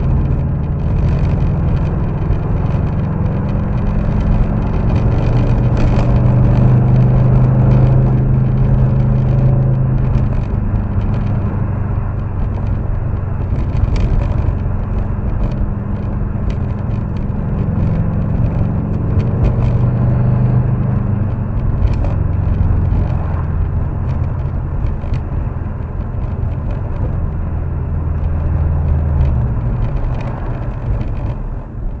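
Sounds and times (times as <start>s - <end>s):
car engine hum from inside cabin: 0.0s - 32.0s
road noise: 0.0s - 32.0s
small clicks and rattles: 0.0s - 32.0s.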